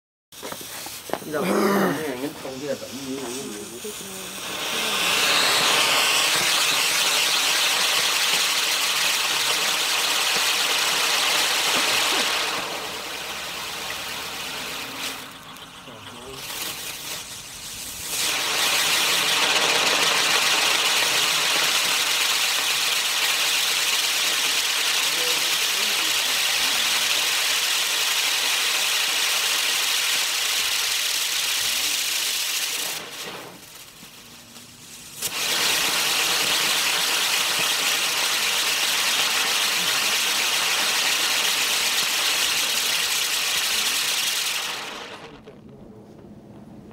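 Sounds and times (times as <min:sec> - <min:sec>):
firework wheel hissing: 0:00.4 - 0:46.9.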